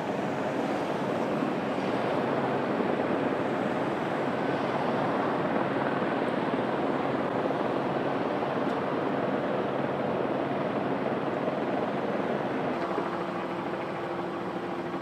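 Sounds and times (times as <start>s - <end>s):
helicopter rotor and turbine: 0.0s - 15.0s.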